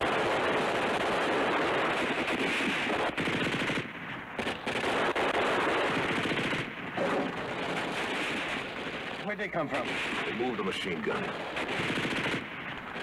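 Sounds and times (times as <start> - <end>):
machine-gun fire: 0.0 - 13.0.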